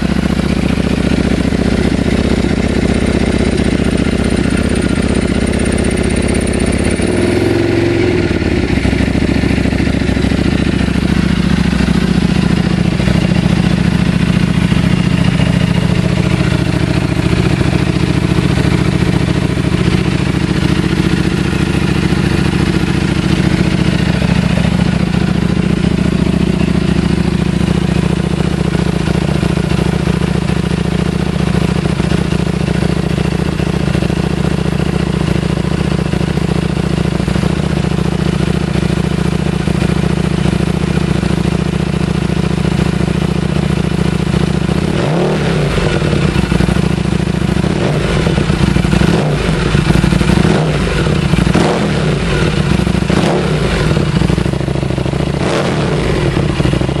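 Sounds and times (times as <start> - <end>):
motorcycle engine idling: 0.0 - 57.0
motorcycle throttle blips: 0.0 - 57.0.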